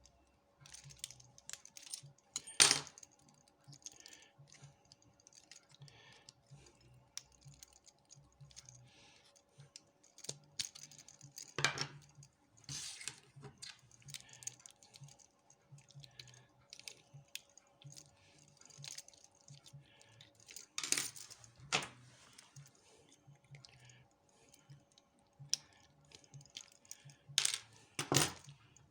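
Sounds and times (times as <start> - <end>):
small metal clicks and scrapes: 0.6 - 28.9.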